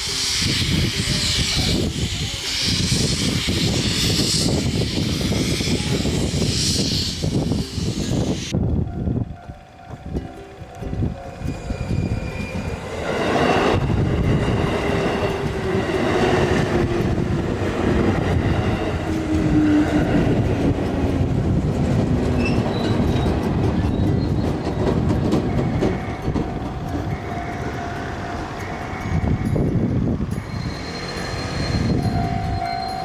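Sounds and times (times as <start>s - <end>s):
train passing close by: 0.0s - 33.0s.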